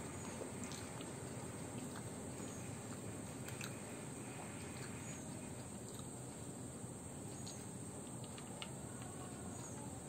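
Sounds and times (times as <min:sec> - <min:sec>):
quiet chewing: 0:00.0 - 0:10.0
steady background hiss: 0:00.0 - 0:10.0.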